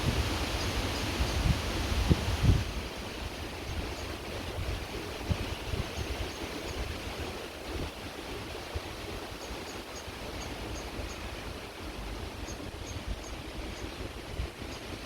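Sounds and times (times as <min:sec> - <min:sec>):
creek water running: 0:00.0 - 0:15.0
wind buffeting microphone: 0:00.0 - 0:15.0.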